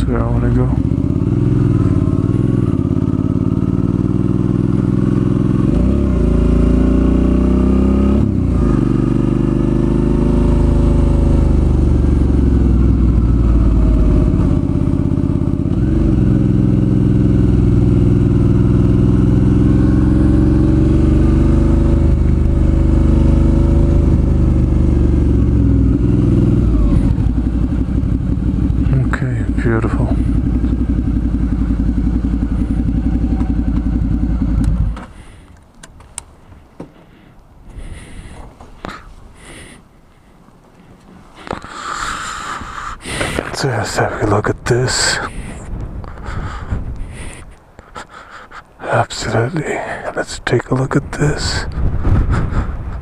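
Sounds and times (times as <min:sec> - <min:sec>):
motorcycle engine revving: 0:00.0 - 0:35.4, 0:41.4 - 0:49.4.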